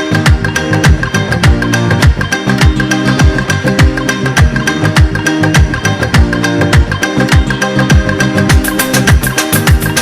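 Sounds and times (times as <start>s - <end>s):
sustained pitched notes: 0.0s - 10.0s.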